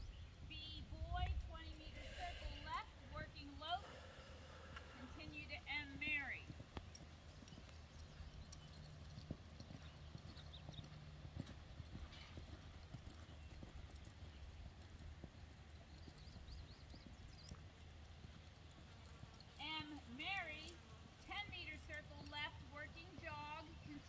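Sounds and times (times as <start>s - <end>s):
horse hoofbeats on sand: 0.6s - 24.0s.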